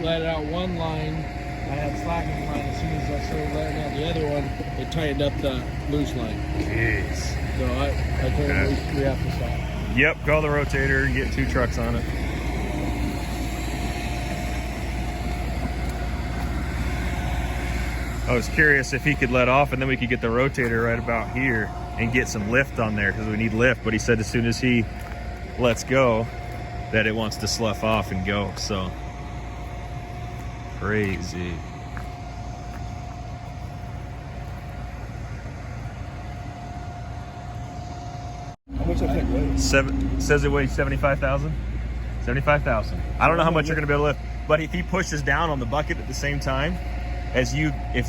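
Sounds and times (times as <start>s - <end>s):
diesel engine idling: 0.0s - 48.0s
faint steady whine: 0.0s - 48.0s.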